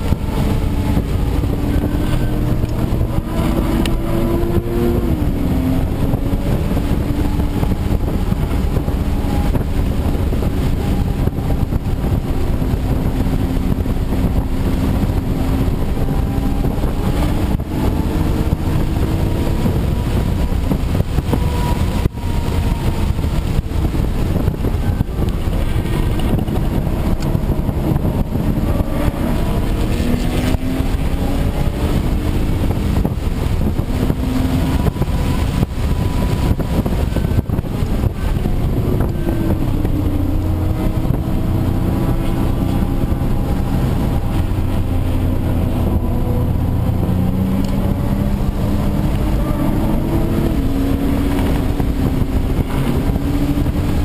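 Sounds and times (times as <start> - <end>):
car engine revving: 0.0 - 54.0
road and tyre rumble: 0.0 - 54.0.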